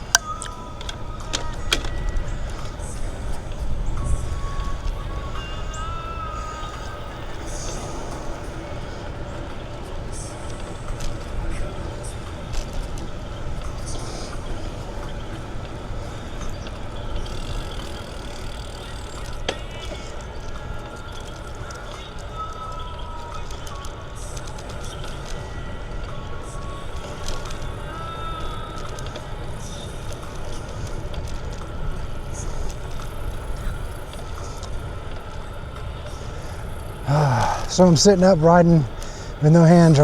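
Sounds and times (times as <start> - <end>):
bicycle tyre noise: 0.0 - 40.0
faint clicks: 0.0 - 40.0
wind rumble: 0.0 - 40.0.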